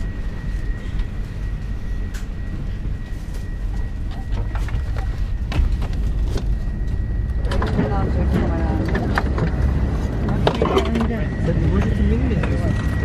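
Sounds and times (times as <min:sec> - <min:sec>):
air conditioning rumble: 0:00.0 - 0:13.0
high whine: 0:00.0 - 0:13.0.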